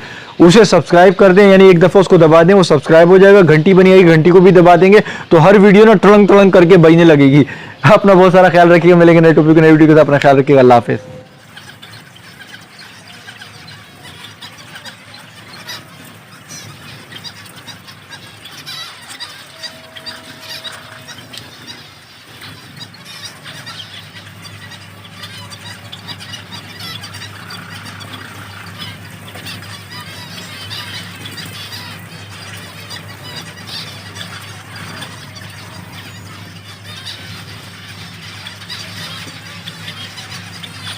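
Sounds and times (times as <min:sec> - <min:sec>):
finches chattering: 0:00.0 - 0:40.9.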